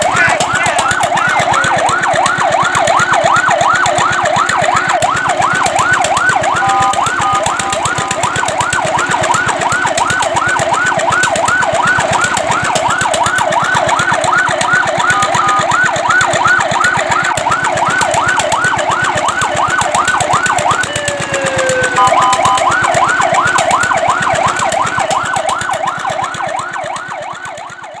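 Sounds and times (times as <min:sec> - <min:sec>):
fire truck siren yelping: 0:00.0 - 0:28.0.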